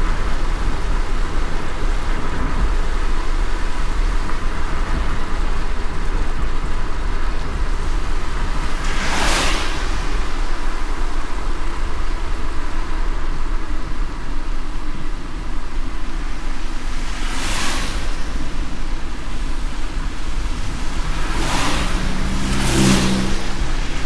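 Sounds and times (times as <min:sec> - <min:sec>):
low road and engine rumble: 0:00.0 - 0:24.0
rain hiss: 0:00.0 - 0:24.0.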